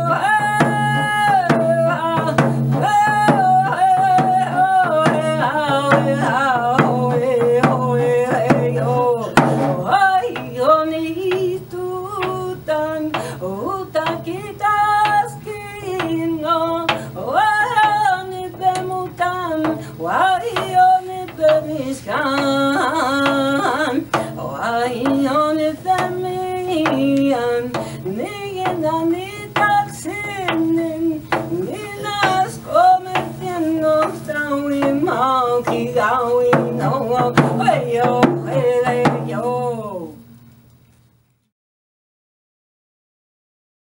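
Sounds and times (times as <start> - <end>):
woman singing slow song: 0.0 - 40.4.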